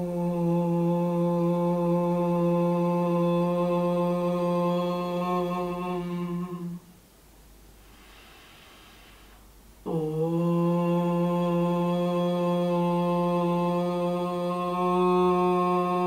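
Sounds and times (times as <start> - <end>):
woman chanting om: 0.0 - 7.0, 9.8 - 16.0.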